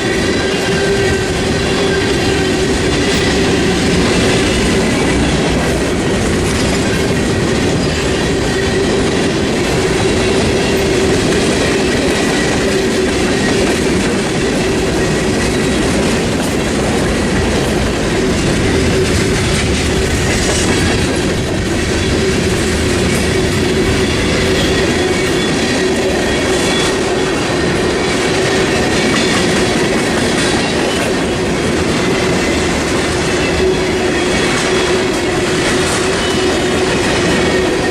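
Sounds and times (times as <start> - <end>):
train wheels on rails: 0.0 - 37.9.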